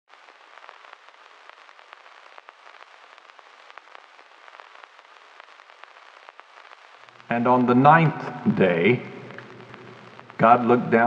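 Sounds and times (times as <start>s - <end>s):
old recording surface noise: 0.1s - 11.0s.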